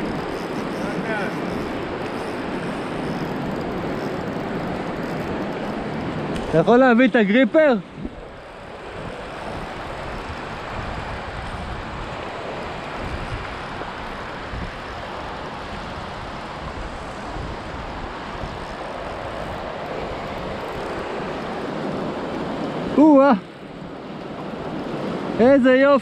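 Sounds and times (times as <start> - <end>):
wind buffeting microphone: 0.0 - 25.6
river rapids roaring: 0.0 - 26.0.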